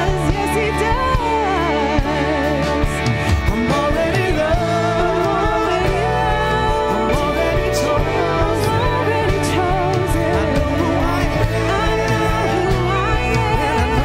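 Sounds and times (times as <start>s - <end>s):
person singing: 0.0s - 14.0s
worship band music: 0.0s - 14.0s.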